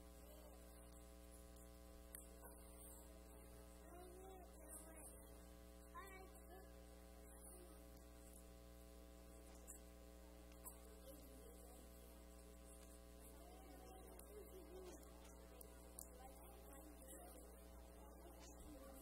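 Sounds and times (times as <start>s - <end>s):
faint children's voices: 0.0s - 8.4s, 10.5s - 19.0s
electrical hum: 0.0s - 19.0s.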